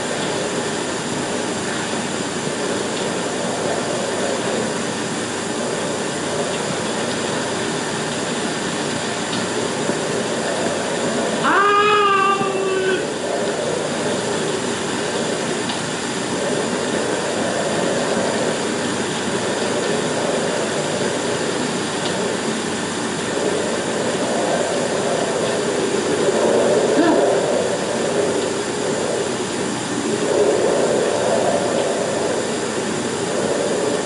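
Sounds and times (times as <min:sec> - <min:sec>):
film soundtrack hiss: 0:00.0 - 0:34.0
storm wind roaring: 0:00.0 - 0:34.0.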